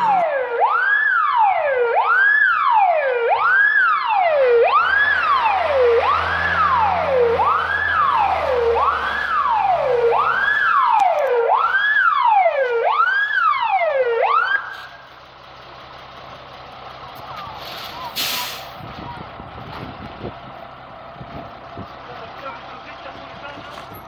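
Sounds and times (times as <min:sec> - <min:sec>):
fire engine siren wailing: 0:00.0 - 0:15.3, 0:16.8 - 0:24.0
truck engine running: 0:04.7 - 0:24.0.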